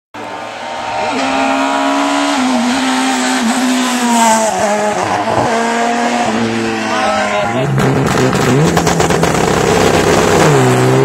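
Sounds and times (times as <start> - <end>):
rally car engine revving high: 0.2 - 11.0.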